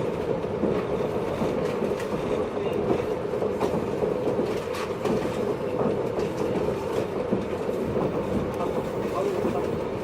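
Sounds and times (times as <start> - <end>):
train clacks: 0.0 - 10.0
train wheels rumbling: 0.0 - 10.0.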